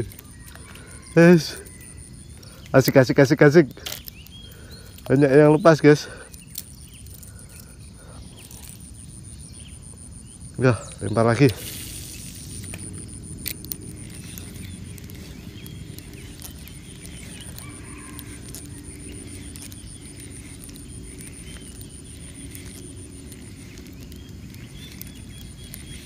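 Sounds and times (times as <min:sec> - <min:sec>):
high-pitched insect drone: 0:00.0 - 0:03.6, 0:04.7 - 0:26.0
faint bird calls: 0:00.0 - 0:26.0.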